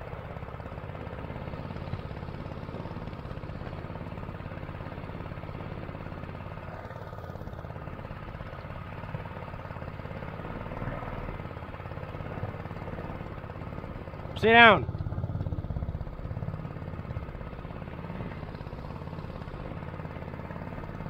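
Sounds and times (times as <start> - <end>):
small boat engine running: 0.0 - 21.0.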